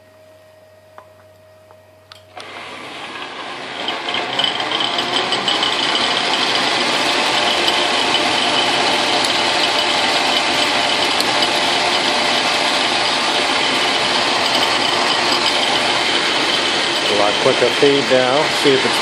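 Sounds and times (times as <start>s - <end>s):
lathe running: 2.4s - 19.0s.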